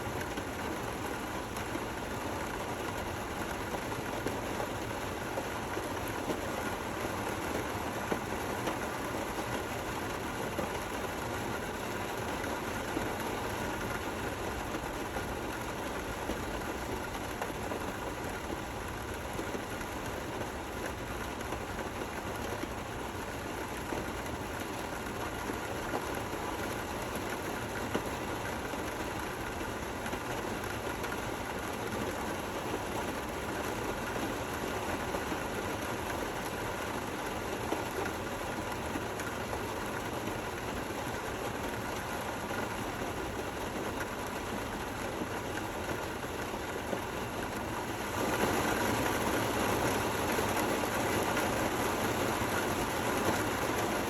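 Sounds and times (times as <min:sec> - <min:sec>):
gentle rainfall: 0:00.0 - 0:54.0.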